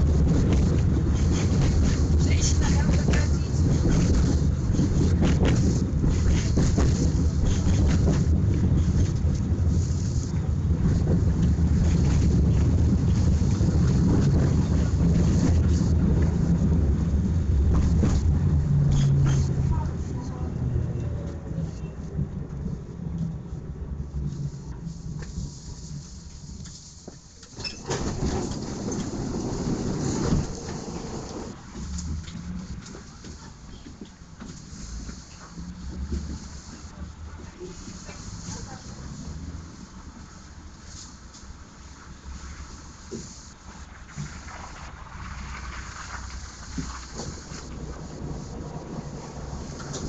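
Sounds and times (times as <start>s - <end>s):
tram wheels rumbling on rails: 0.0s - 50.0s.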